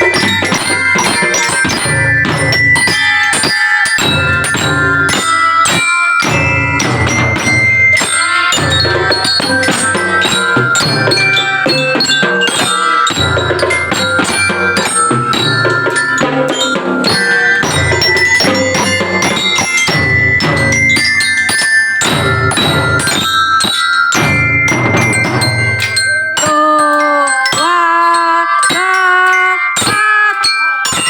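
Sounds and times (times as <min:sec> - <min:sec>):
marching drums beat: 0:00.0 - 0:26.3
bell lyre melody: 0:00.0 - 0:31.0.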